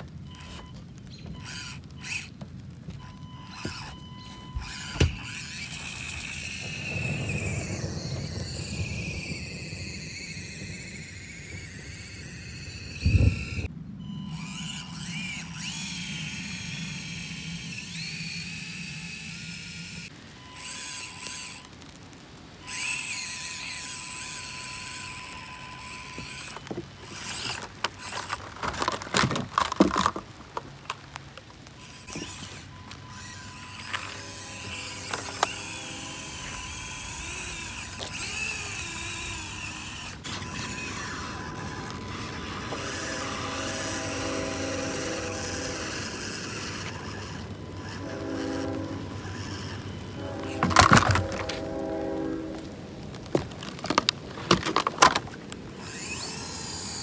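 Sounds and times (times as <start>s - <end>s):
electric motor and gearbox whining: 0.0s - 57.0s.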